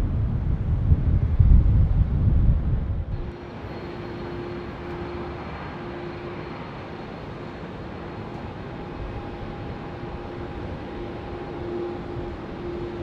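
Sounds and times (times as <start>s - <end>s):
distant jet airliner rumble: 0.0s - 13.0s.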